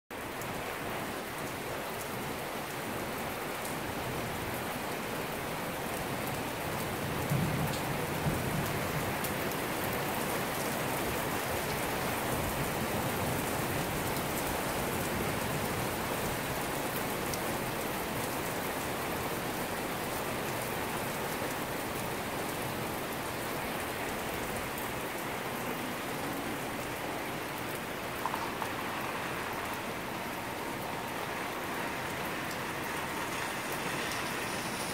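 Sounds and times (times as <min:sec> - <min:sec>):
heavy rain on street and cars: 0:00.1 - 0:34.9.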